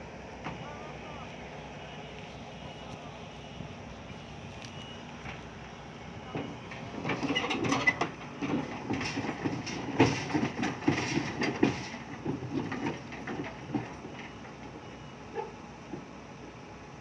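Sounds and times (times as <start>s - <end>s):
steel crawler tracks clanking: 0.0s - 17.0s.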